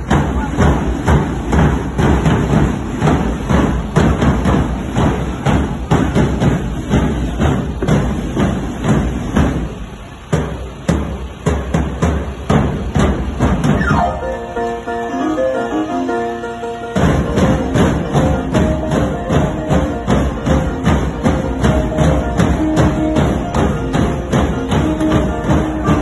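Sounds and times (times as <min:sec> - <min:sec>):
bass drums beating: 0:00.0 - 0:14.6, 0:17.0 - 0:26.0.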